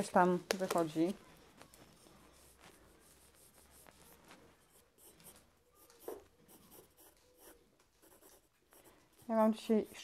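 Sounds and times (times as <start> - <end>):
pencil sketching on paper: 1.1 - 10.0.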